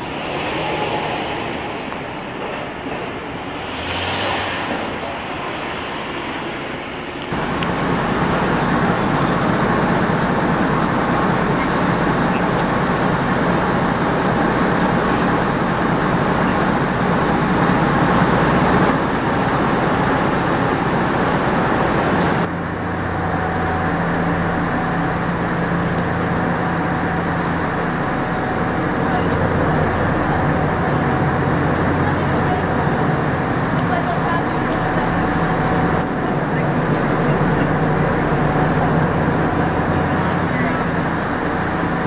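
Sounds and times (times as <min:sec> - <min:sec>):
ferry engines droning: 0:00.0 - 0:42.0.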